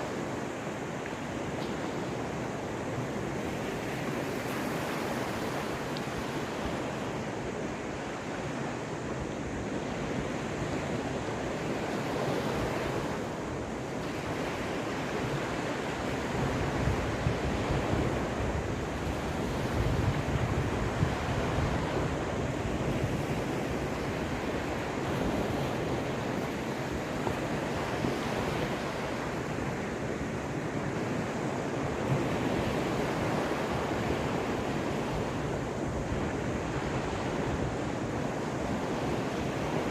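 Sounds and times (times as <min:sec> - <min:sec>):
waves washing onto shore: 0:00.0 - 0:39.9
wind buffeting microphone: 0:00.0 - 0:39.9.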